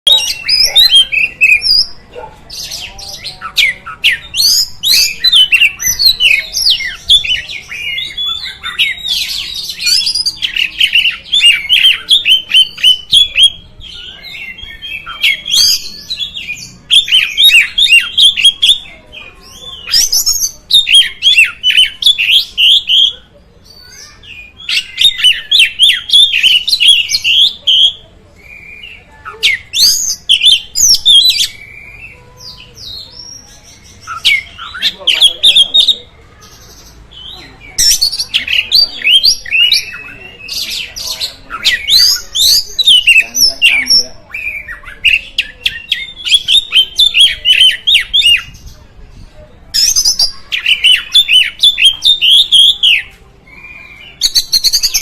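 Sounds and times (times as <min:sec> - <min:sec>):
bird singing chirps and whistles: 0:00.0 - 0:36.1, 0:37.2 - 0:48.6, 0:49.8 - 0:55.0.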